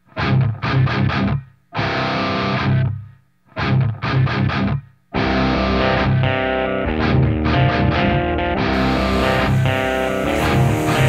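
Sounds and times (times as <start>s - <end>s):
rock music with distorted guitar: 0.1s - 2.9s, 3.6s - 11.0s.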